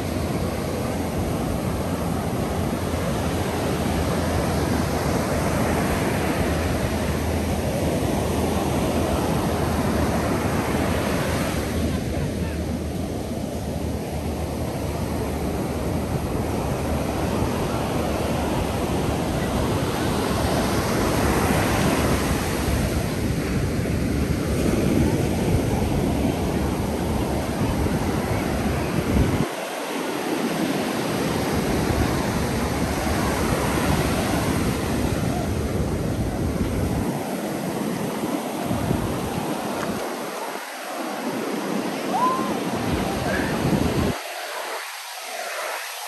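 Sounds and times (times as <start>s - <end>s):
wind rumble on microphone: 0.0s - 44.2s
ocean surf breaking on beach: 0.0s - 46.0s.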